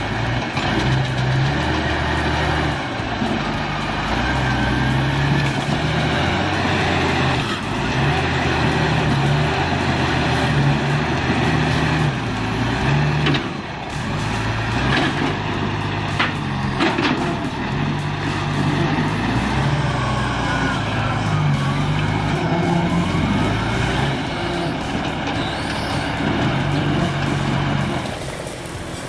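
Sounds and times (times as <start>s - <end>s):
heavy diesel machinery running: 0.0s - 29.0s.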